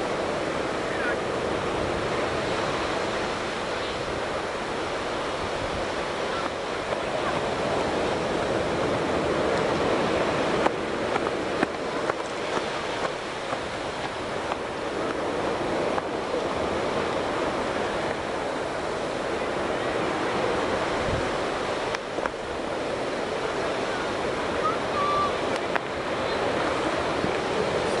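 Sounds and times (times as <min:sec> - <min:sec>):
surf breaking on beach: 0:00.0 - 0:28.0
wind: 0:00.0 - 0:28.0.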